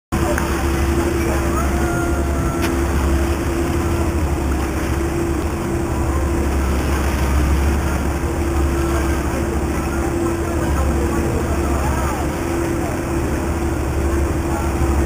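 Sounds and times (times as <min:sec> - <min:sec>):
boat engine droning: 0:00.1 - 0:15.0
rushing water noise: 0:00.1 - 0:15.0.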